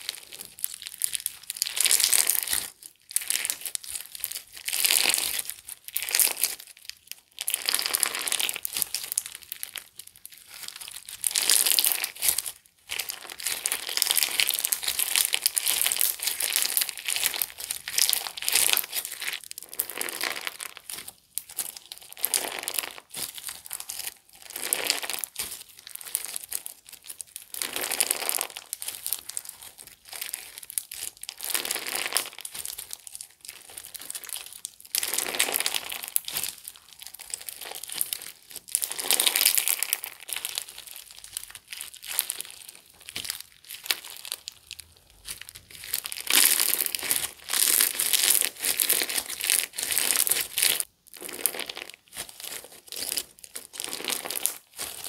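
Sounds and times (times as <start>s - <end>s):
slime crinkling crackle: 0.0s - 55.0s.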